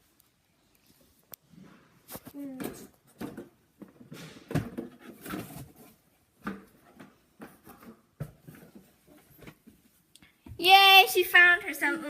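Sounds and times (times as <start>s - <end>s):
household things rustling and knocking: 0.9s - 10.6s.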